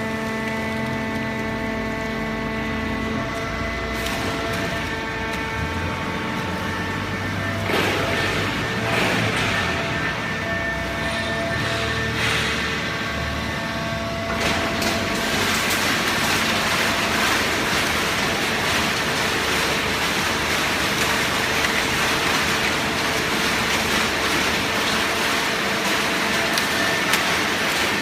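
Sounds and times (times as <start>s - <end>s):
baler mechanical din: 4.2s - 27.7s.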